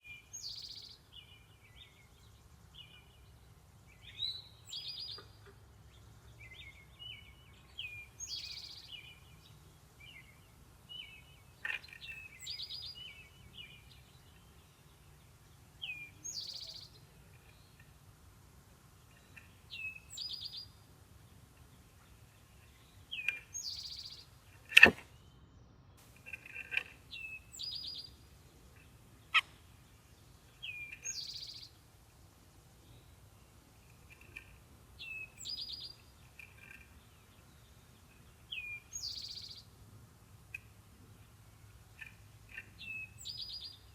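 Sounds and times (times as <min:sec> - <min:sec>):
bird chirps: 0:00.0 - 0:18.0, 0:19.0 - 0:20.9, 0:21.5 - 0:24.4, 0:25.0 - 0:31.9, 0:32.8 - 0:39.8, 0:41.9 - 0:43.9
songbird singing: 0:00.0 - 0:43.9.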